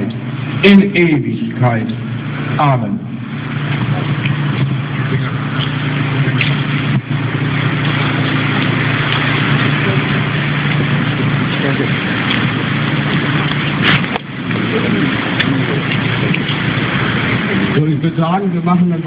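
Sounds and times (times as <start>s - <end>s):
road traffic rumble in tunnel: 0.0s - 19.0s.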